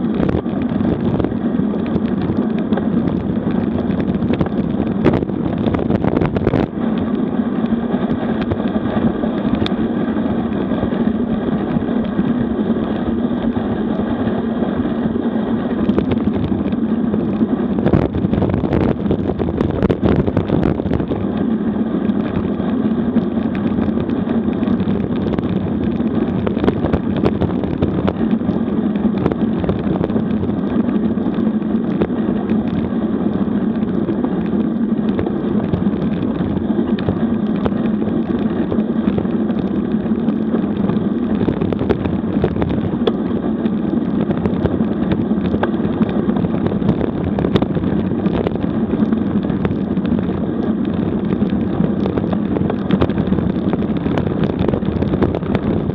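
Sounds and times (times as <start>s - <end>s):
bike tyres rumbling on asphalt: 0.0s - 55.9s
wind rushing over microphone: 0.0s - 55.9s.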